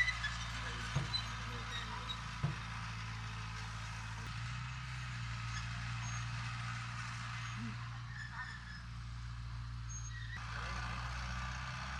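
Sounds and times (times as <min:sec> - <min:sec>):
diesel earthmoving machinery drone: 0:00.0 - 0:11.9.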